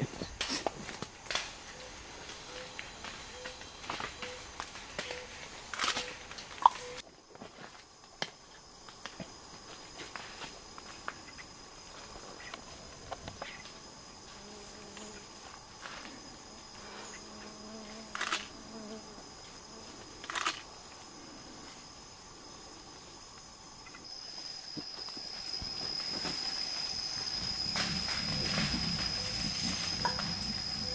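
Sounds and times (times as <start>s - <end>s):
insects buzzing: 0.0s - 30.9s.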